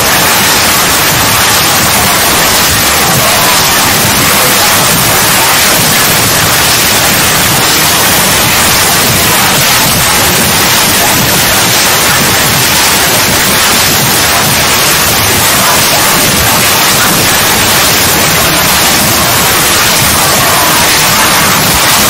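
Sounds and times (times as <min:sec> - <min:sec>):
static hiss: 0:00.0 - 0:22.0.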